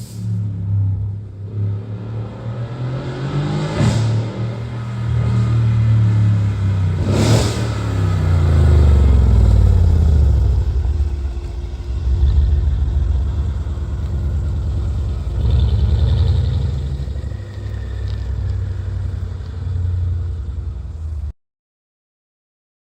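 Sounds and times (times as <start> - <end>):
car engine revving: 0.4 - 21.3.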